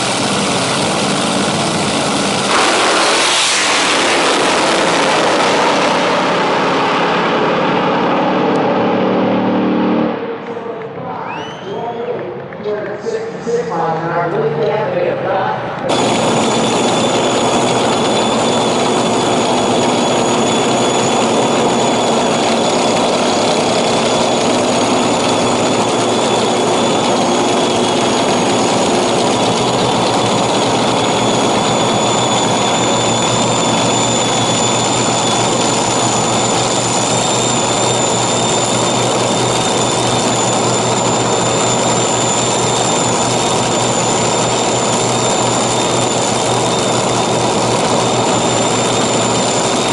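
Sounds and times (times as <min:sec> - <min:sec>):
dragster engine idling loudly: 0:00.0 - 0:10.2, 0:15.8 - 0:49.9
high whine: 0:00.0 - 0:49.9.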